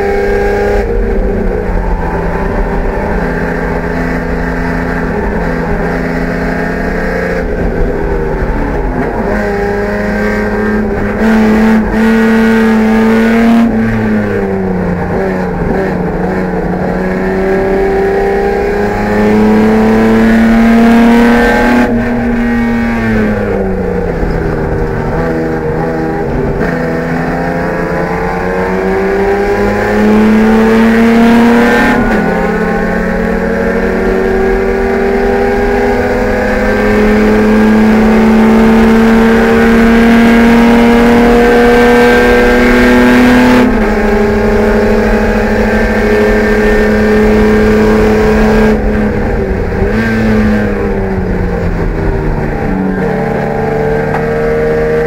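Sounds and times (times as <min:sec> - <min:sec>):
race car engine pulling hard: 0:00.0 - 0:55.0.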